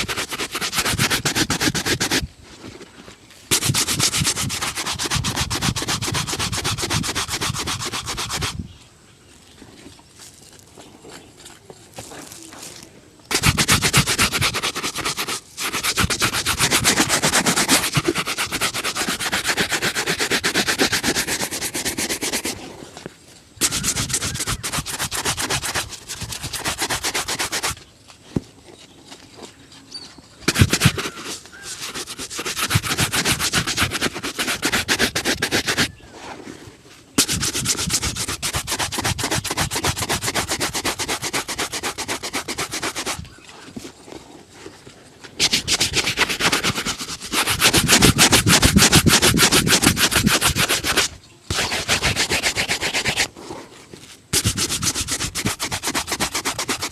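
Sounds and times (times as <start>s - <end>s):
shoe buffing strokes: 0.0s - 8.7s, 13.3s - 22.9s, 23.6s - 27.9s, 30.4s - 36.5s, 37.2s - 44.2s, 45.3s - 56.9s.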